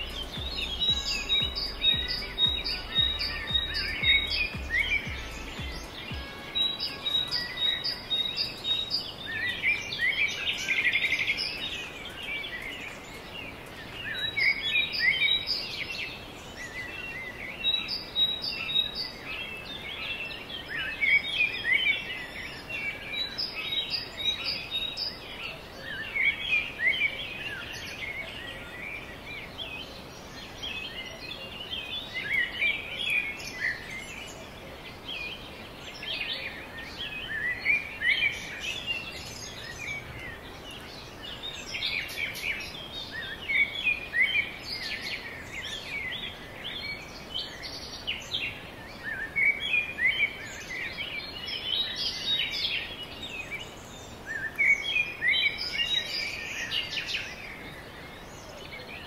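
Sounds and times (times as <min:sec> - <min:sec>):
many birds chirping: 0:00.0 - 0:59.0
outdoor background hiss: 0:00.0 - 0:59.0.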